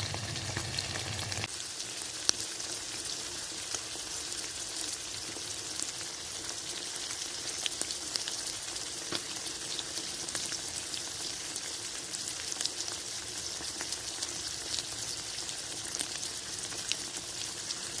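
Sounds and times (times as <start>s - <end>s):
oil popping and crackling: 0.0s - 3.1s, 5.1s - 18.0s
fish sizzling in hot oil: 0.0s - 18.0s.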